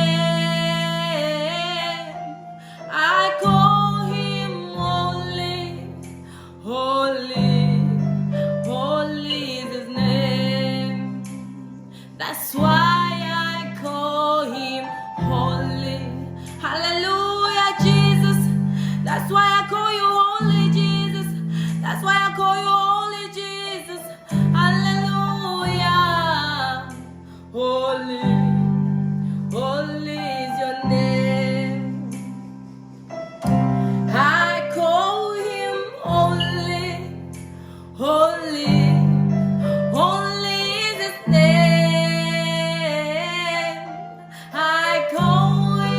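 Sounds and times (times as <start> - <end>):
woman singing slow song: 0.0 - 32.6, 33.9 - 45.9
keyboard chords: 0.0 - 45.9.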